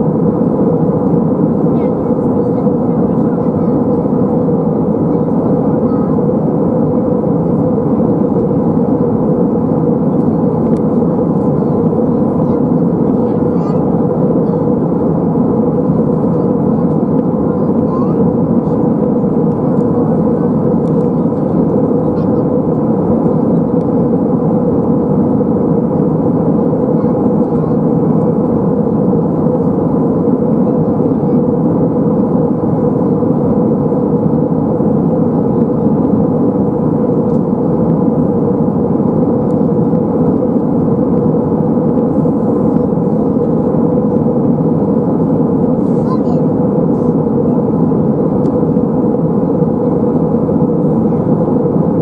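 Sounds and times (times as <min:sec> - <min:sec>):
airflow over fuselage: 0:00.0 - 0:52.0
jet engines droning: 0:00.0 - 0:52.0
steady hum: 0:00.0 - 0:52.0.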